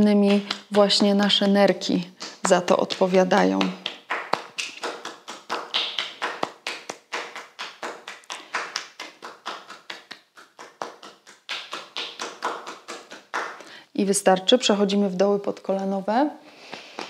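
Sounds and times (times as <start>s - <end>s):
hand patting skin: 0.0s - 13.7s.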